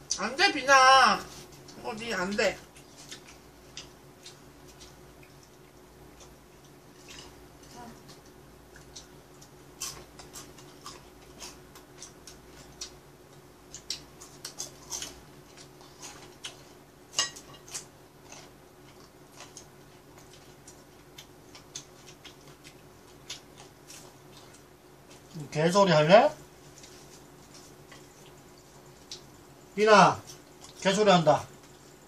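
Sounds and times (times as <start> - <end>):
faint steady hum: 0.0 - 32.0
chewing: 2.6 - 25.5, 26.6 - 30.9.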